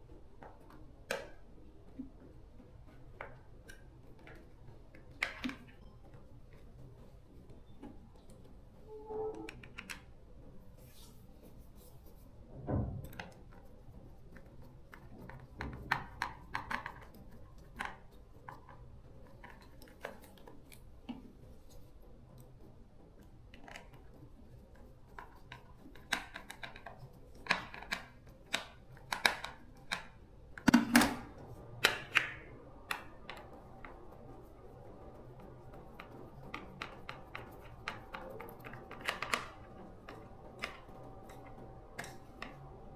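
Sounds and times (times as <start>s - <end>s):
small hard parts clicking: 0.0s - 10.7s, 13.0s - 42.9s.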